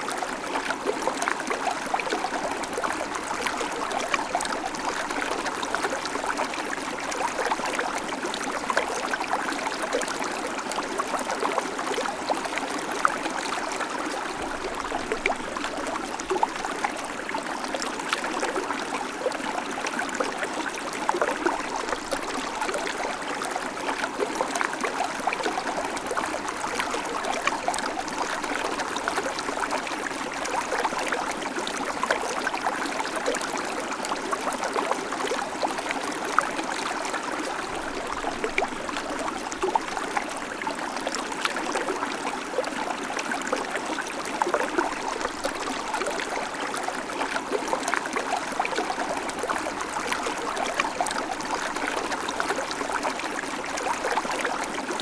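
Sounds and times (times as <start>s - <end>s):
creek water over stones: 0.0s - 55.0s.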